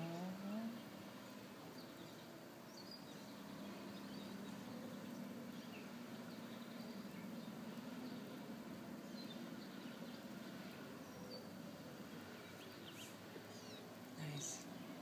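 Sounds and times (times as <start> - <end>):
faint bird chirps: 0.0 - 11.7, 12.3 - 15.0
quiet steady hum: 0.0 - 15.0.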